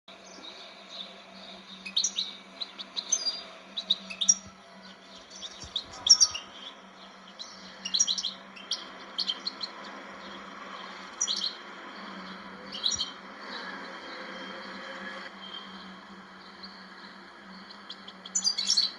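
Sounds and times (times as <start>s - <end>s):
bird twittering song: 0.1s - 18.9s
steady low hum: 0.1s - 18.9s.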